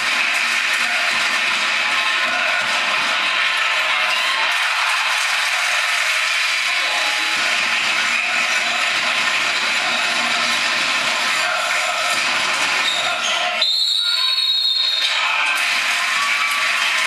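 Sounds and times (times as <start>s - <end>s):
dense crowd din: 0.0s - 17.0s.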